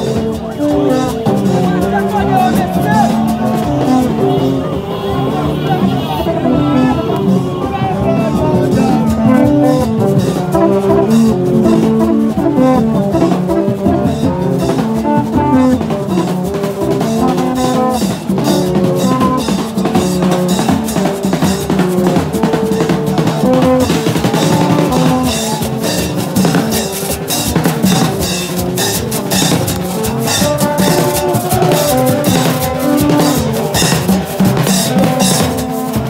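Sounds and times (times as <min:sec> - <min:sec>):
bamboo trumpets playing a tune: 0:00.0 - 0:36.0
drums beating: 0:00.0 - 0:36.0.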